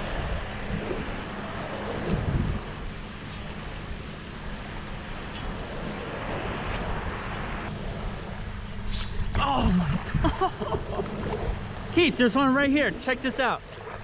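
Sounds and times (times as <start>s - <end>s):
constant low hum: 0.0s - 14.0s
surf washing: 0.0s - 14.0s
wind buffeting microphone: 0.0s - 14.0s.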